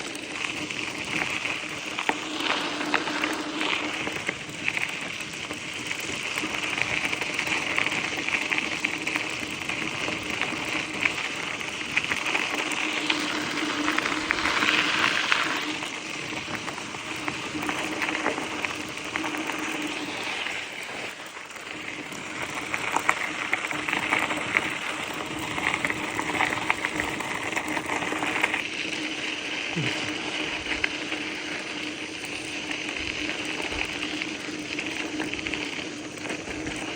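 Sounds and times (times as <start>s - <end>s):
bicycle tyres rolling on rough surface: 0.0s - 36.9s
grit clicking under tyres: 0.0s - 36.9s.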